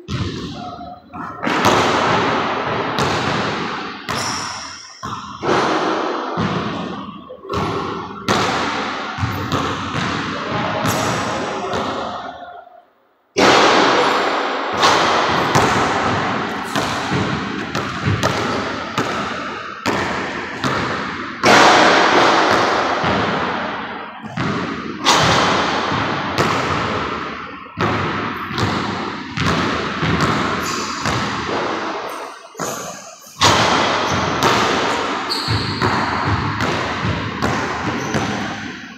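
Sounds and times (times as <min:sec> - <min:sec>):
basketball hitting backboard and rim: 0:00.0 - 0:12.3, 0:13.4 - 0:38.9
basketball bouncing in gym: 0:00.0 - 0:12.6, 0:13.4 - 0:38.9.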